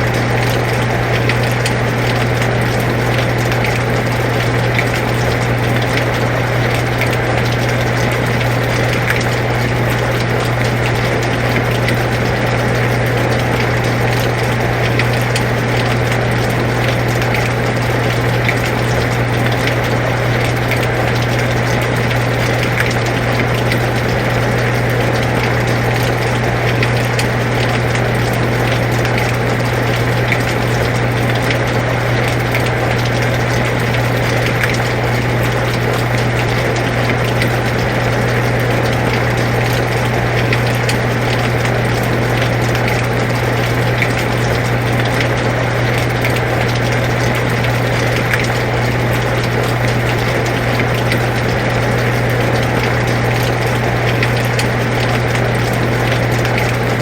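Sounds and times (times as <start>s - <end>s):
air conditioner humming: 0.0s - 57.0s
steady rain: 0.0s - 57.0s.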